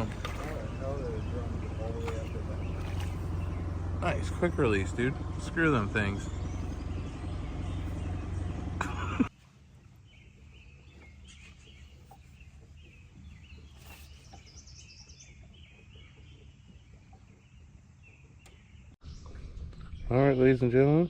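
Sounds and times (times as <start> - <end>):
low motor hum: 0.0 - 21.0
songbirds chirping faintly: 0.0 - 21.0.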